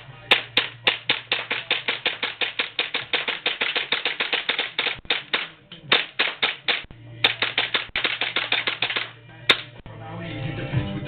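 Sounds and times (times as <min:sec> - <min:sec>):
airsoft pistol shots: 0:00.3 - 0:09.8.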